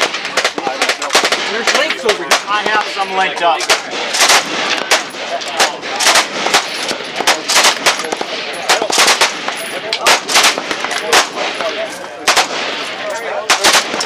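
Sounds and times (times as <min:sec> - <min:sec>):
machine-gun fire: 0:00.0 - 0:14.0.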